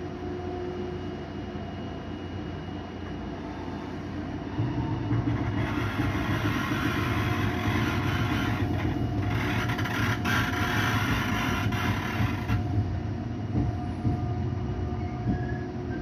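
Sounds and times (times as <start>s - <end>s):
train rumble and rail noise: 0.0s - 16.0s.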